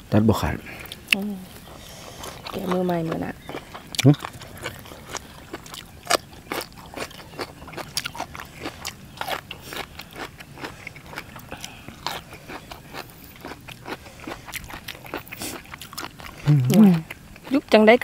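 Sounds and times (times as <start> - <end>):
crunching raw asparagus: 0.9 - 17.5.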